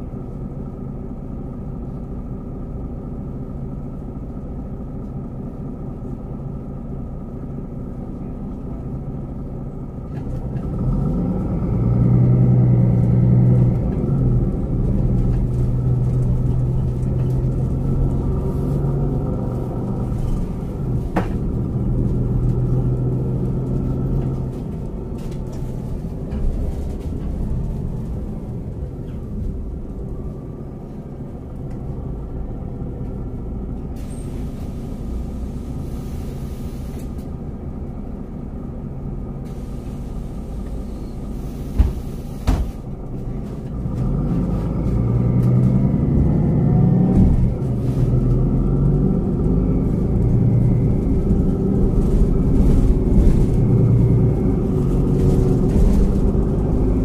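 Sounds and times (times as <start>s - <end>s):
bus diesel engine driving: 0.0s - 57.0s.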